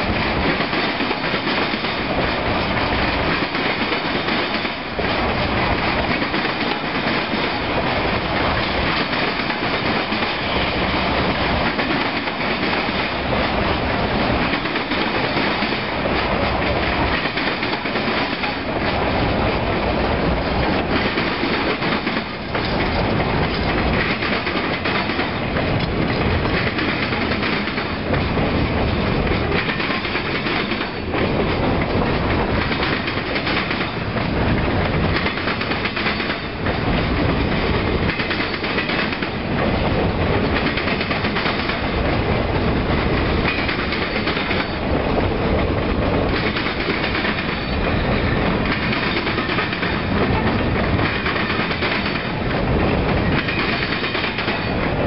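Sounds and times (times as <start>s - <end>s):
train wheels clacking over rail joints: 0.0s - 55.0s.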